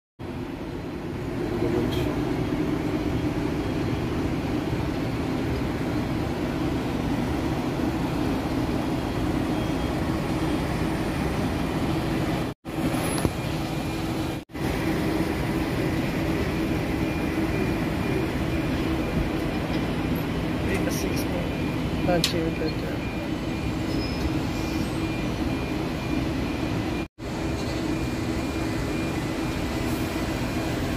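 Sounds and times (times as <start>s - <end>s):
construction machinery drone: 0.2s - 30.9s.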